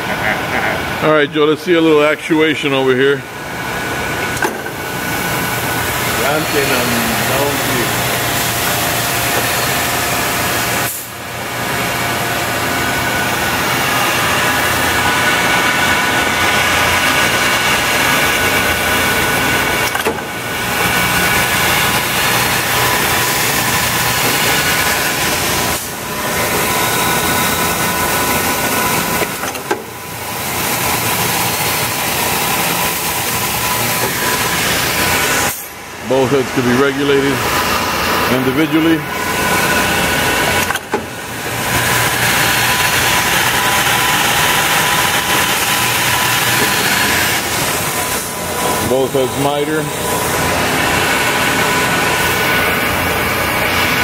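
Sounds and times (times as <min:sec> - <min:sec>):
miter saw running with whine: 0:00.8 - 0:54.0.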